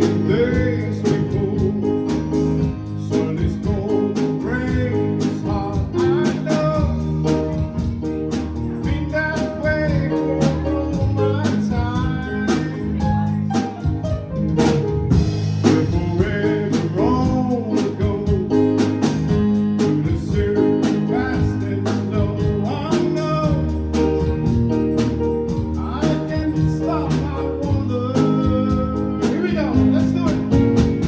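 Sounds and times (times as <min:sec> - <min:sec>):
person singing: 0:00.0 - 0:07.6, 0:08.6 - 0:13.4, 0:15.6 - 0:24.4, 0:25.5 - 0:31.0
country-rock band playing: 0:00.0 - 0:31.0.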